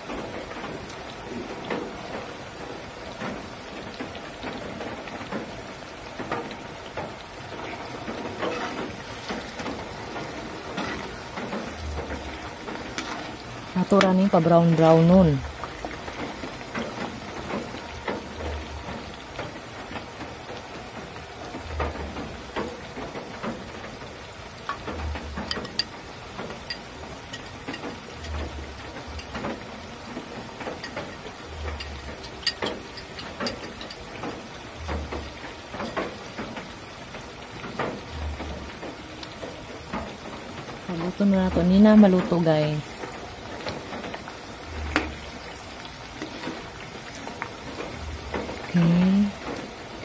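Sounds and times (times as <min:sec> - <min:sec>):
oil sizzling and popping: 0:00.0 - 0:50.0.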